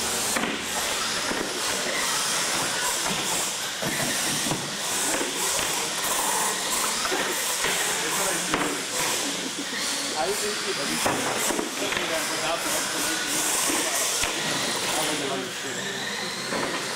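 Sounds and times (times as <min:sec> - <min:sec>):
toy truck motors hissing: 0:00.0 - 0:16.9.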